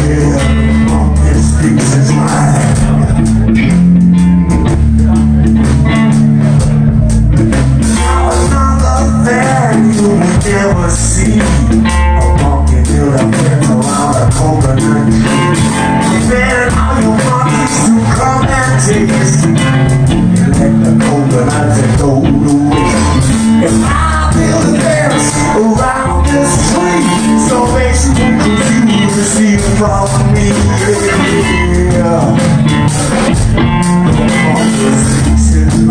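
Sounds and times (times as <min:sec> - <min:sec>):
man singing: 0:00.0 - 0:04.2, 0:07.8 - 0:35.9
drum kit beat: 0:00.0 - 0:35.9
electric guitars and bass: 0:00.0 - 0:35.9.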